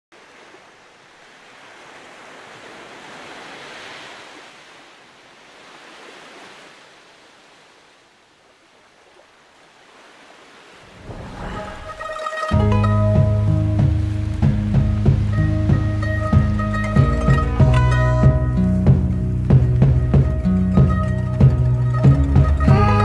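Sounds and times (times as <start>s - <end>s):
sea waves washing: 0.1s - 23.0s.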